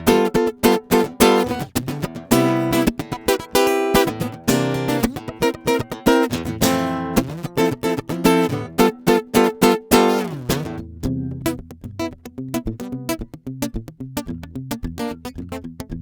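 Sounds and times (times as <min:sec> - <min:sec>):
acoustic guitar strummed and picked: 0:00.0 - 0:16.0.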